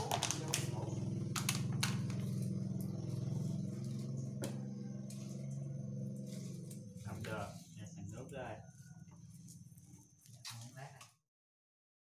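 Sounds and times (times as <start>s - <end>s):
steady low drone: 0.0s - 10.1s.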